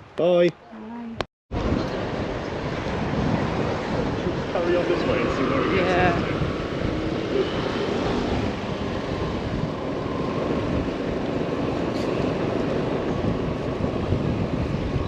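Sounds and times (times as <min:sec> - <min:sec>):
wind buffeting microphone: 0:01.0 - 0:15.0.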